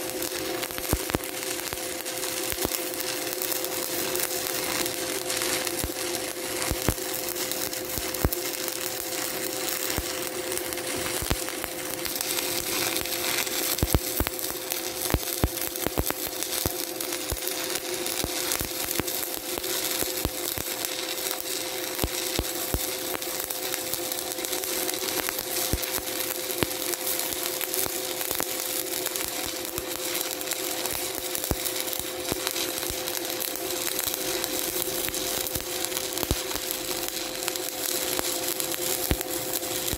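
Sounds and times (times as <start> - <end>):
welding arc crackling and popping: 0.0 - 39.9.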